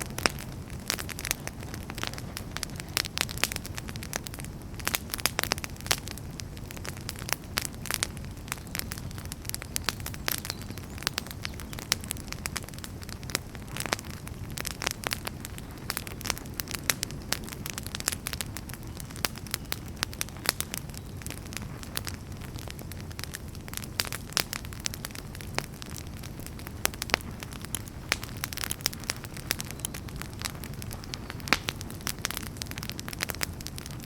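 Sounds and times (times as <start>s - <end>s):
campfire pops and snaps: 0.0s - 34.0s
low rumble of flames: 0.0s - 34.0s.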